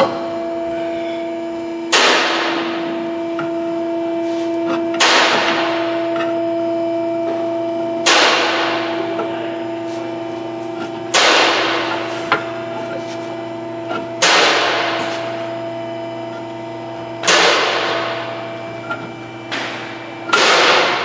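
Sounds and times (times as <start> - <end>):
workshop hum: 0.0 - 21.0
heavy impacts: 1.7 - 21.0.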